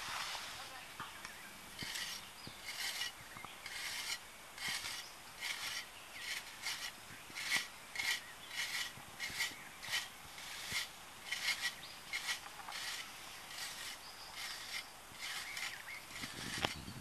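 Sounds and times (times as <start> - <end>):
hand tool scraping soil: 1.7 - 16.9.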